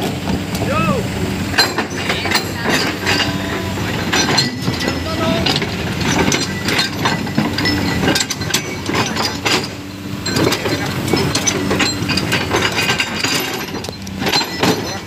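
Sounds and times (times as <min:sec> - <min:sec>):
diesel engine running: 0:00.0 - 0:15.0
sharp knocks and clinks: 0:01.5 - 0:15.0.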